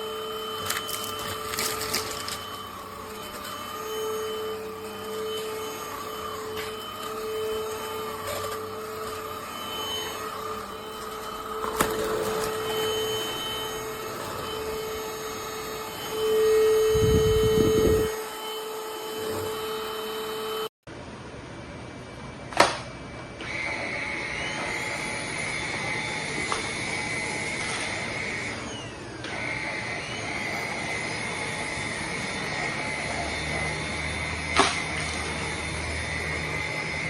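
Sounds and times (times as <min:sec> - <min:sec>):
stick vacuum cleaner whining: 0:00.0 - 0:20.7, 0:23.4 - 0:37.0.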